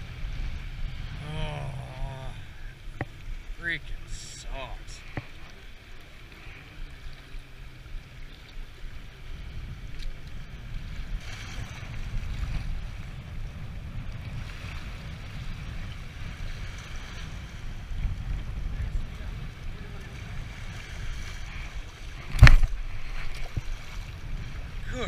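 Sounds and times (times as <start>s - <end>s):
waves washing and splashing: 0.0s - 25.0s
wind buffeting microphone: 0.0s - 25.0s.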